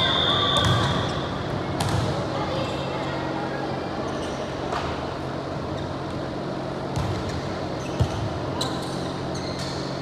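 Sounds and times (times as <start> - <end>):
sports hall hum: 0.0 - 10.0.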